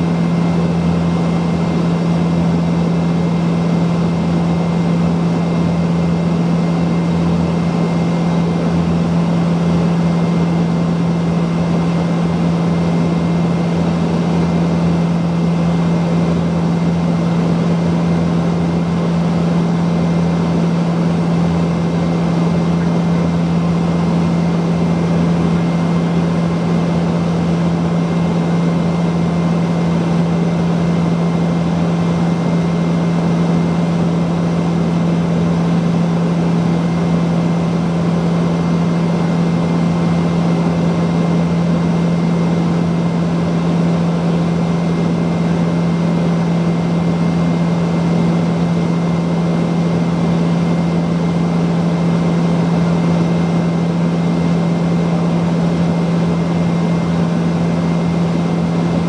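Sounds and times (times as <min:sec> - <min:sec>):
high engine whine: 0:00.0 - 0:59.0
turboprop engines droning: 0:00.0 - 0:59.0.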